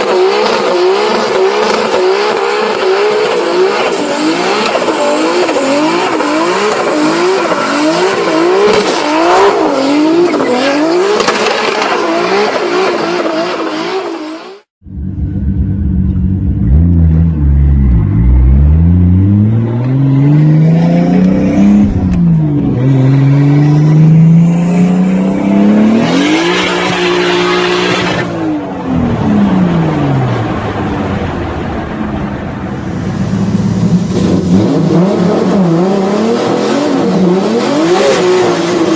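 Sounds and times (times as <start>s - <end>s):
car engine revving hard: 0.0s - 14.7s, 16.5s - 31.5s, 33.0s - 38.9s.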